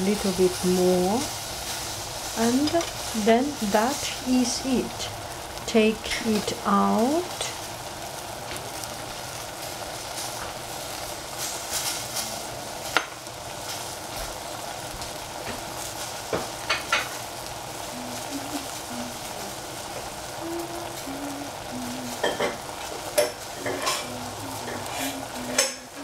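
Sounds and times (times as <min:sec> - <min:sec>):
sharp frying pops: 0:00.0 - 0:26.0
vegetables sizzling in a saucepan: 0:00.0 - 0:26.0.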